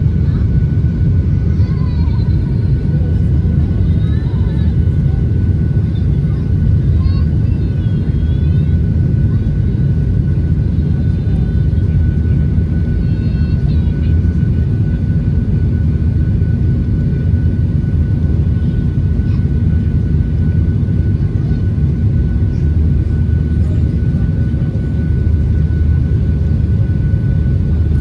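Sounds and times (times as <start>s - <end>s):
jet engines rumbling in cabin: 0.0s - 28.0s.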